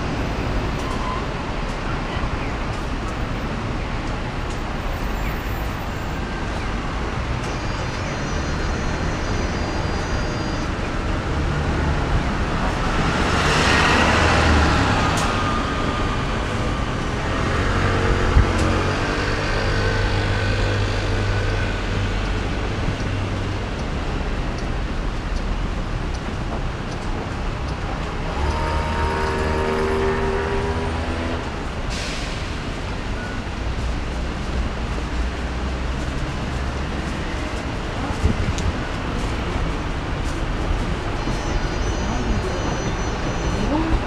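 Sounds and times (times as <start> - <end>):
hum of tyres and engines: 0.0 - 44.0.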